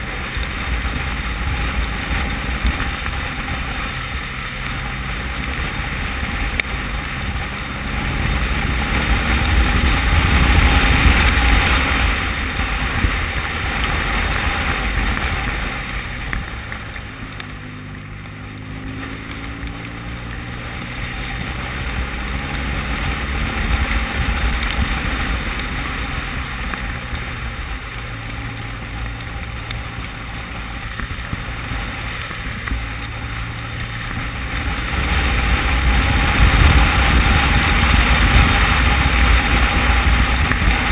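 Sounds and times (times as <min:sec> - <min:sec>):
motorcycle engine drone: 0:00.0 - 0:40.9
wind rushing on microphone: 0:00.0 - 0:40.9.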